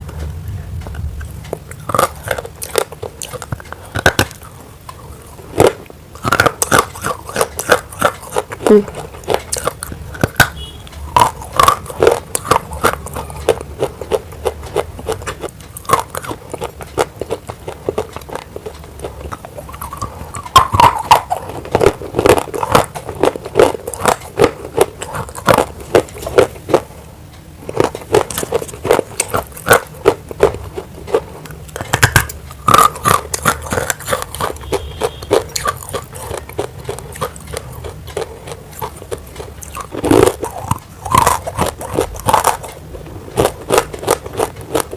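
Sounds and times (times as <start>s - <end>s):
crunching in the mouth: 0.8s - 26.9s, 27.6s - 44.9s.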